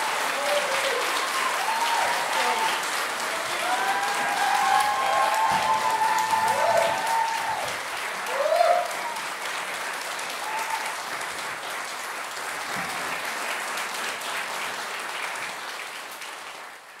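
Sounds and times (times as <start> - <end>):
crowd cheering: 0.0 - 15.9
audience applauding: 0.0 - 17.0.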